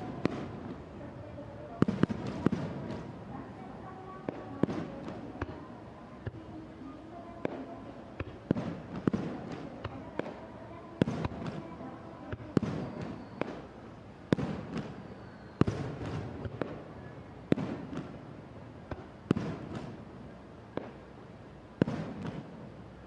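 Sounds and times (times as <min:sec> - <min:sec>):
fireworks bursting with bangs: 0:00.0 - 0:06.5, 0:07.1 - 0:22.8
fireworks crackling: 0:00.0 - 0:23.0.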